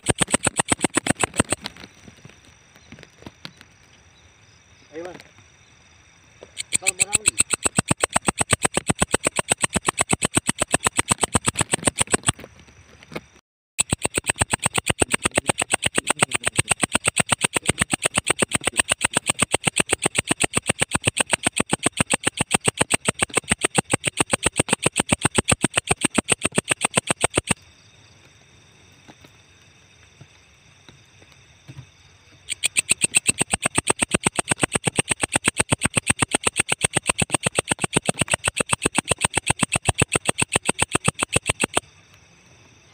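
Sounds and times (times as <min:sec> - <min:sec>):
insect ticking call: 0:00.0 - 0:13.2, 0:13.8 - 0:42.9.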